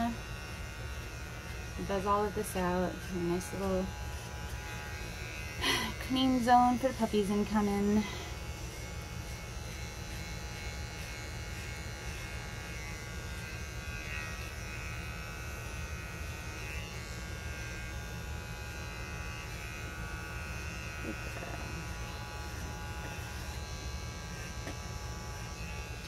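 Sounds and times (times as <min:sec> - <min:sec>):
pet hair clipper buzzing: 0:00.0 - 0:26.0.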